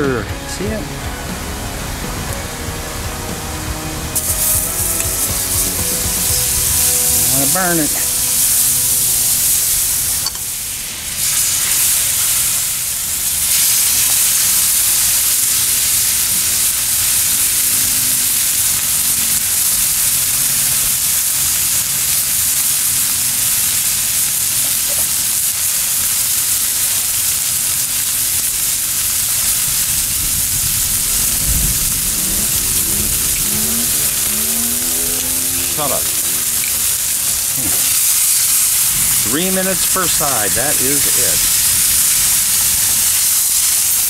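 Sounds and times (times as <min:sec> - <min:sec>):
food sizzling on hot grill: 0:00.0 - 0:44.0.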